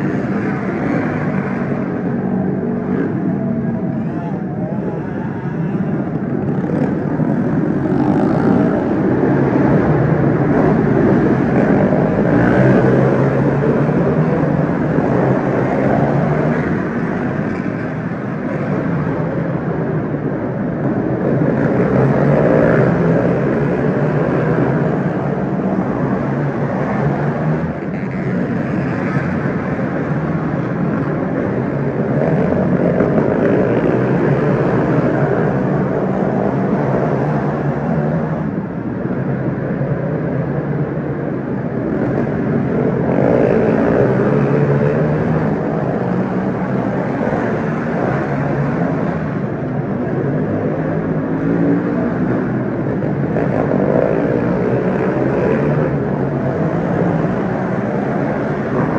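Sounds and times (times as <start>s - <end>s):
racing kart engines: 0.0s - 58.9s.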